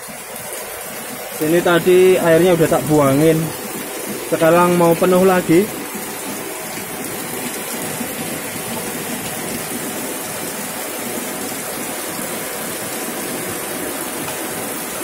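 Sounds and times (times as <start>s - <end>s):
heavy rain on pavement: 0.0s - 15.0s
rain splashing into water tubs: 0.0s - 15.0s.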